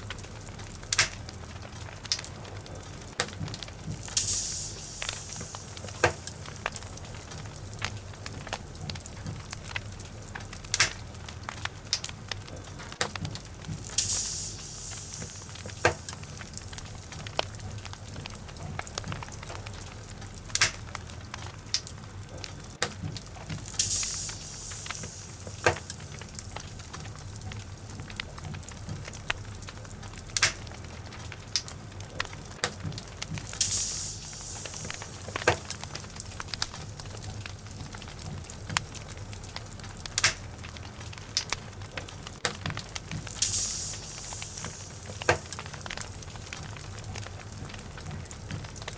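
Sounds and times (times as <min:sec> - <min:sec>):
fire hissing: 0:00.0 - 0:48.9
flame rumbling in fireplace: 0:00.0 - 0:48.9
wood crackling and popping: 0:00.0 - 0:48.9.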